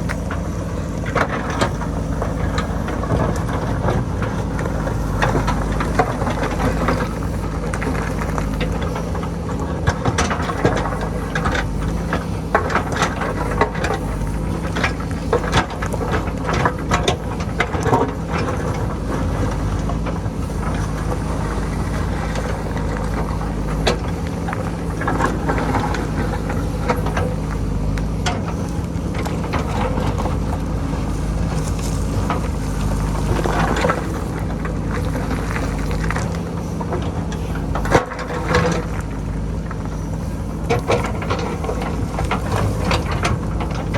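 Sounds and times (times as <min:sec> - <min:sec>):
diesel engine running under load: 0:00.0 - 0:43.9.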